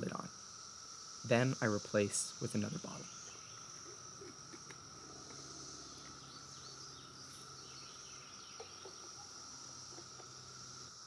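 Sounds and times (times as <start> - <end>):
high insect trilling: 0.0 - 11.0.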